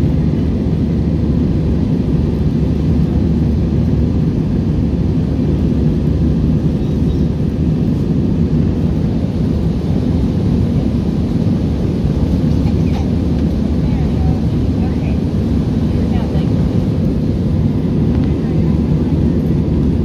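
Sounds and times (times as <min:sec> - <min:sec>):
jet cabin rumble: 0:00.0 - 0:20.0.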